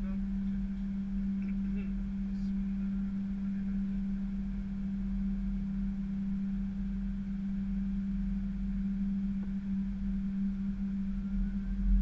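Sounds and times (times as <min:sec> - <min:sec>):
airliner engines humming: 0:00.0 - 0:12.0.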